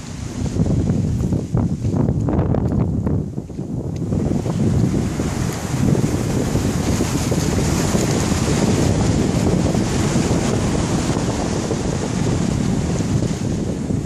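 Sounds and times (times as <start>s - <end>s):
small waves breaking on beach: 0.0s - 2.0s, 3.5s - 14.0s
wind buffeting microphone: 0.0s - 14.0s.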